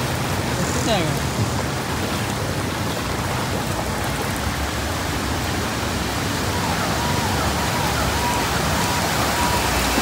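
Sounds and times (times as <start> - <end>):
rain on standing water: 0.0 - 10.0.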